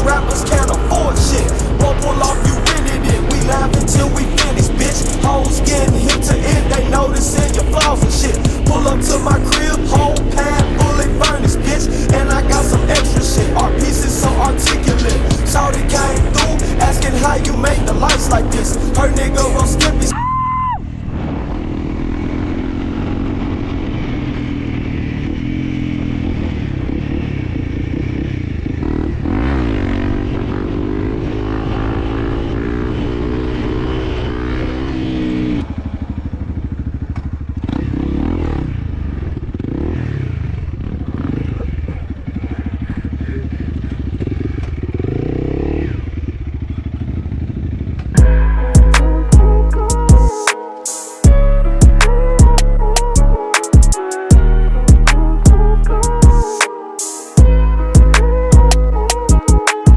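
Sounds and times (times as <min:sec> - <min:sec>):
motorcycle engine revving: 0:00.0 - 0:20.2, 0:20.8 - 0:59.9.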